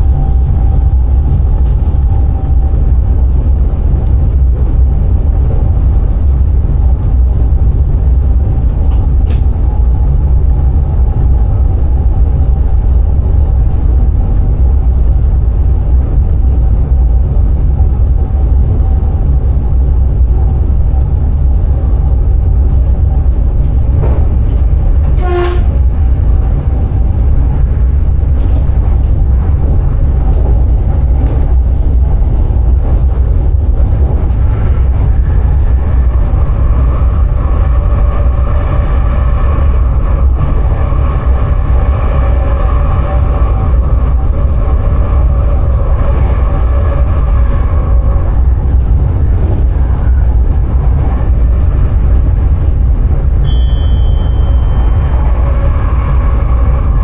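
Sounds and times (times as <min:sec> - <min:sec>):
electric train rumble: 0:00.0 - 0:57.0.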